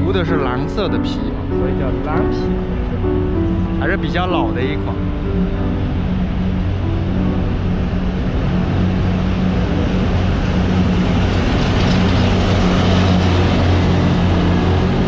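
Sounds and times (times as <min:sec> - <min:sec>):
train engine hum: 0:00.0 - 0:15.0
train rolling noise: 0:00.0 - 0:15.0.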